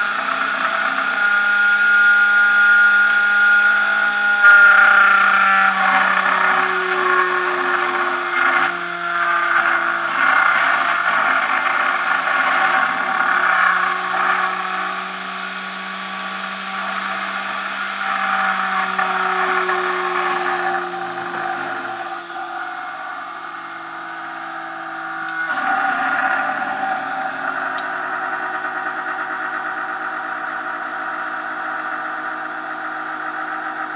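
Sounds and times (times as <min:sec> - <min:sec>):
rotor spinning with whine: 0:00.0 - 0:33.9.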